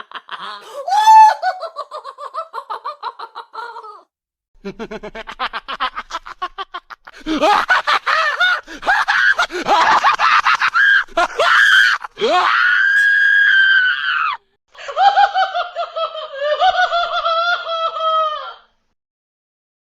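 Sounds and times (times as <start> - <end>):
evil cackling laugh: 0.0 - 12.2, 14.8 - 18.6.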